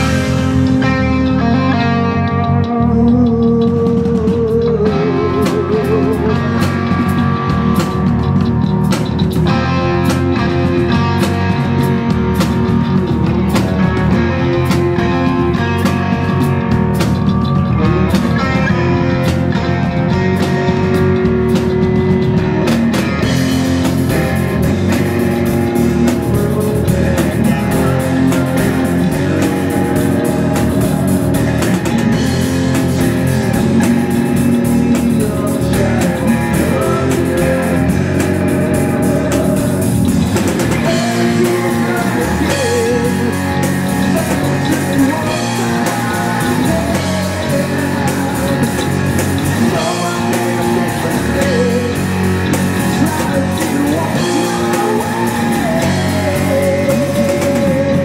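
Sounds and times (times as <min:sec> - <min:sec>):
lead vocal singing: 0:00.0 - 0:08.4, 0:17.4 - 0:58.0
live rock band playing: 0:00.0 - 0:58.0.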